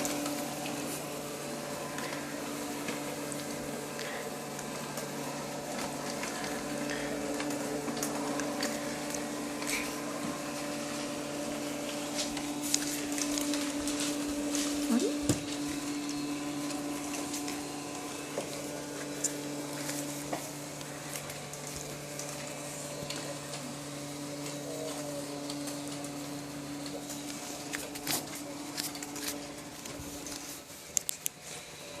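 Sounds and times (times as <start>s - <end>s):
vacuum cleaner motor hum: 0.0s - 32.0s.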